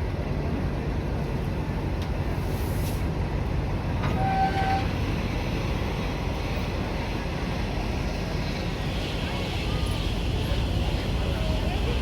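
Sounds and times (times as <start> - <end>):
passenger train rumbling: 0.0 - 12.0.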